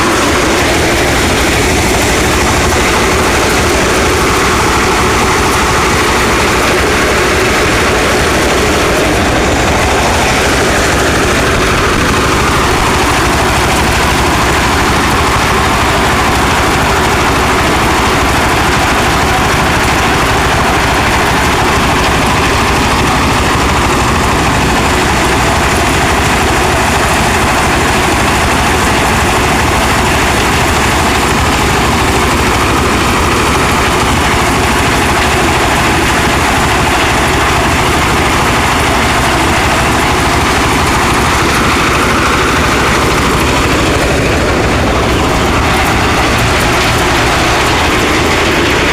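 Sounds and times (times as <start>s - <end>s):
large farm machine engine running: 0.0s - 48.9s.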